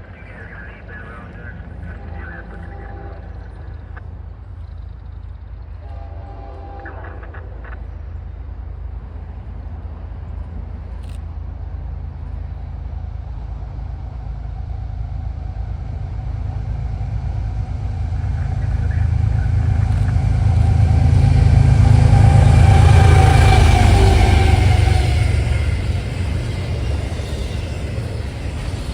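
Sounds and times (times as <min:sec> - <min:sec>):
diesel locomotive engine rumble: 0:00.0 - 0:28.9.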